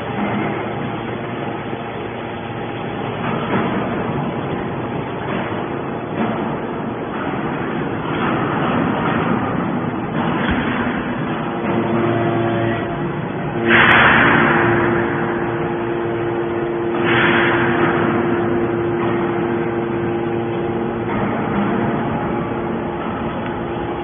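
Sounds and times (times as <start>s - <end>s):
can baler machinery humming: 0.0s - 24.0s.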